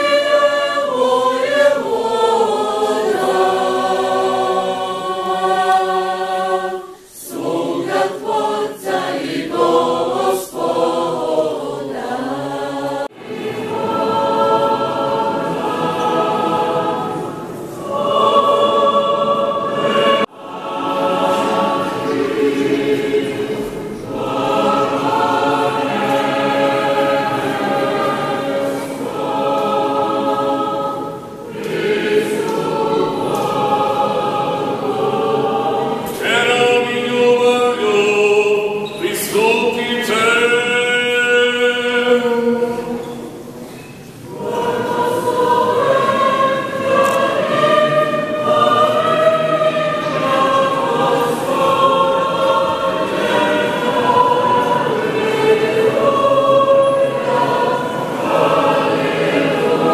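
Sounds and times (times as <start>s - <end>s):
choir singing unaccompanied chant: 0.0s - 59.9s.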